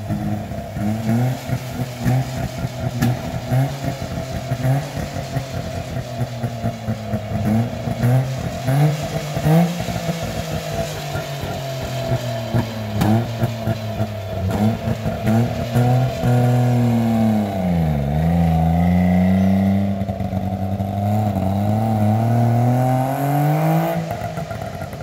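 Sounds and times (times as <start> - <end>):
two-stroke car engine revving: 0.0 - 25.0.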